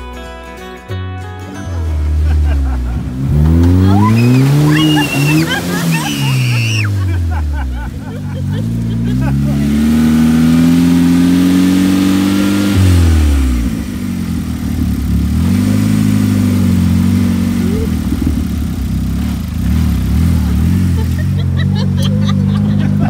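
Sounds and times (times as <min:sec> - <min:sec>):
vehicle engine running: 0:01.3 - 0:23.0.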